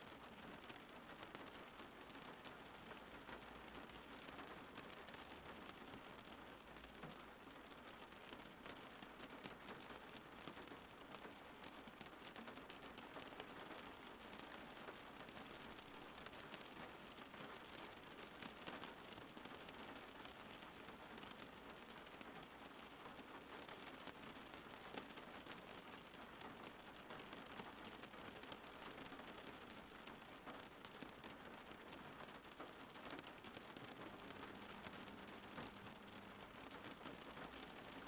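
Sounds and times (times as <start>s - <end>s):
steady rain pattering: 0.0s - 38.0s.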